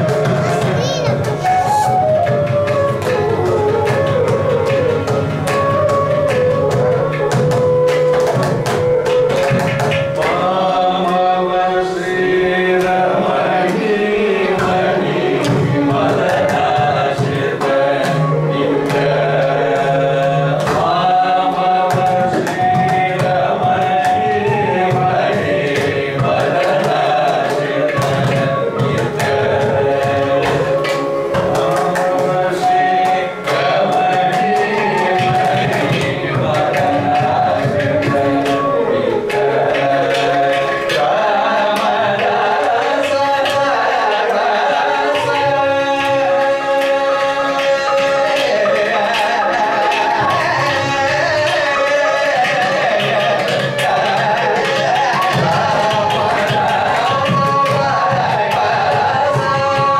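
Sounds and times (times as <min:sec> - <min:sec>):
mridangam drum strokes: 0:00.0 - 0:59.9
violin melody: 0:00.0 - 0:59.9
man singing: 0:10.2 - 0:59.9.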